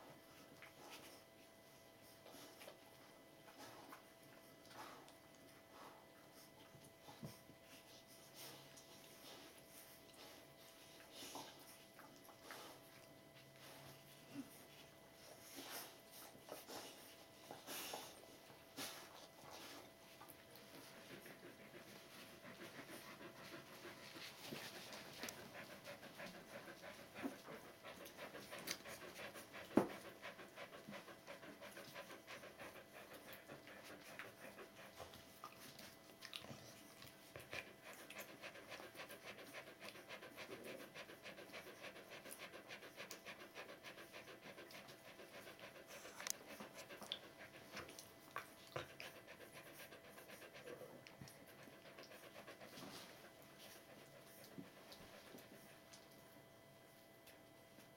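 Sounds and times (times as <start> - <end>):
dog panting: 0.3 - 57.9.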